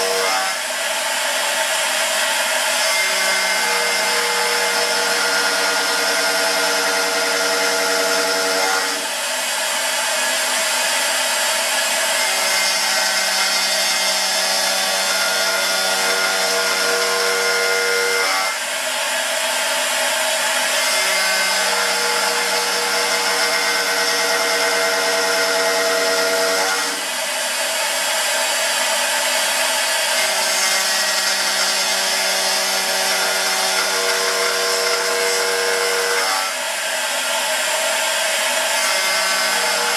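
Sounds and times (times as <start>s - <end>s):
router spindle whining while cutting metal: 0.0s - 39.9s.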